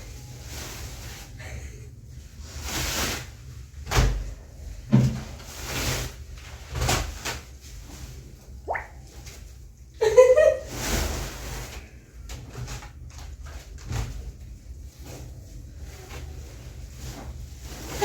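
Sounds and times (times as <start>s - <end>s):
rustling and scraping: 0.0s - 18.0s.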